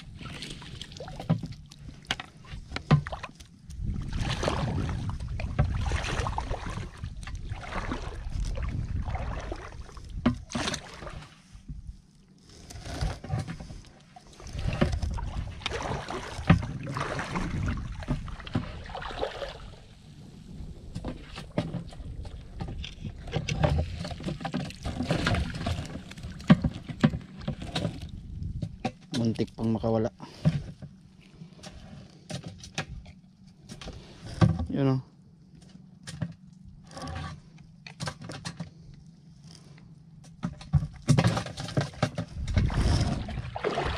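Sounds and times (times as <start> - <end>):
water sloshing and splashing: 0.0 - 34.8, 35.5 - 43.9.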